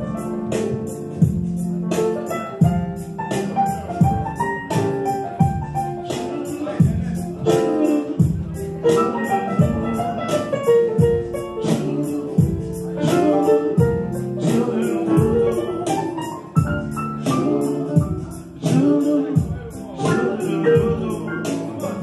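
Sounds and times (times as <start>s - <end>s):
bass: 0.0s - 22.0s
drums: 0.0s - 22.0s
keyboard playing chords: 0.0s - 22.0s.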